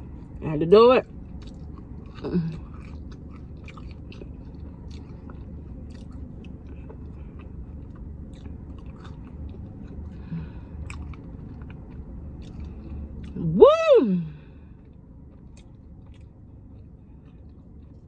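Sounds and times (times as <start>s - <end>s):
closed-mouth hum: 0.0s - 18.0s
person chewing wetly: 1.2s - 13.4s, 14.6s - 18.0s.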